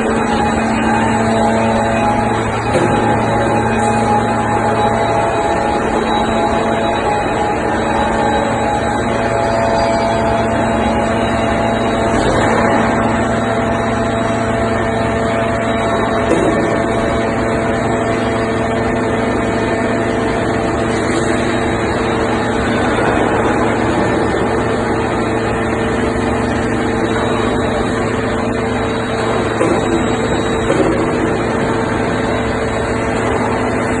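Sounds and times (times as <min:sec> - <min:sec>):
hydraulic machinery drone: 0:00.0 - 0:34.0.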